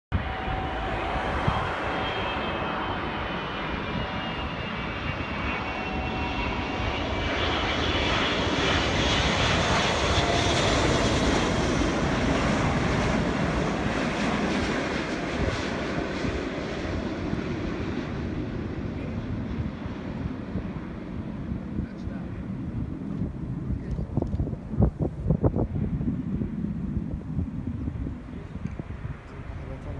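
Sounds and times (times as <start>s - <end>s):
faint high engine whine: 0.1s - 24.2s
airplane engines roaring past: 0.1s - 29.9s.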